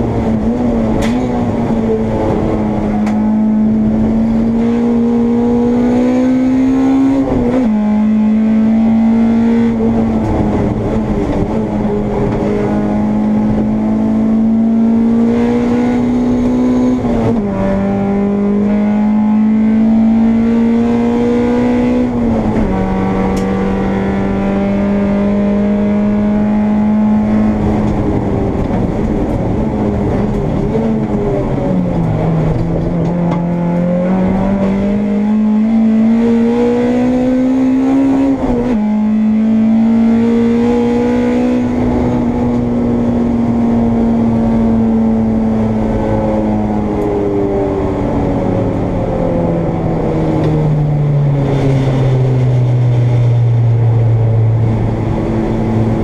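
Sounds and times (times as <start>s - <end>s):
race car engine from inside: 0.0s - 56.0s.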